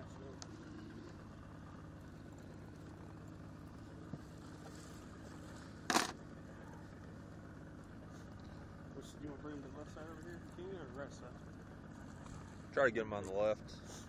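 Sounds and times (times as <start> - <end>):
boat motor idling: 0.0 - 14.0.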